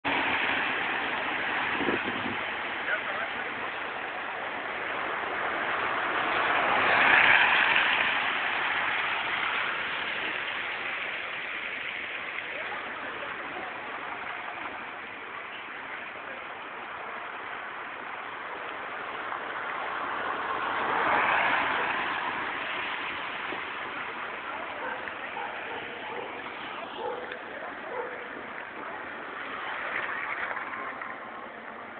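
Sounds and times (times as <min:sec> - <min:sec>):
hail and heavy rain: 0:00.1 - 0:31.8.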